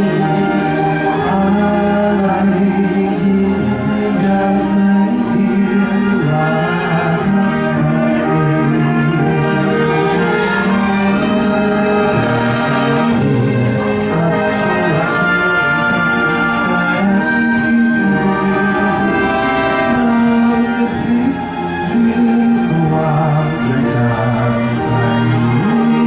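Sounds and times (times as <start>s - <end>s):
orchestral melody with held notes: 0.0s - 26.0s.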